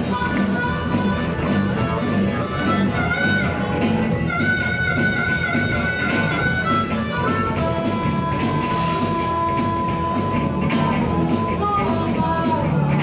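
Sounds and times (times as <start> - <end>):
blues-rock band playing: 0.0 - 13.0
harmonica long notes: 0.0 - 13.0.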